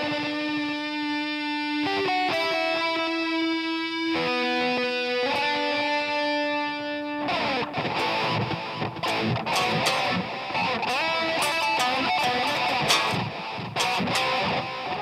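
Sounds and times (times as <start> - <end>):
solo electric guitar: 0.0 - 15.0.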